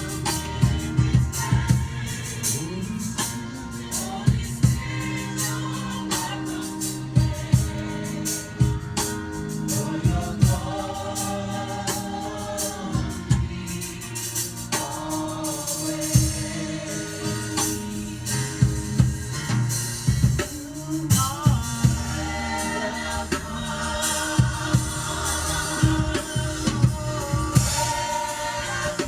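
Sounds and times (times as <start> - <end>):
band with drum kit: 0.0 - 29.0
voices singing long notes: 0.0 - 29.0.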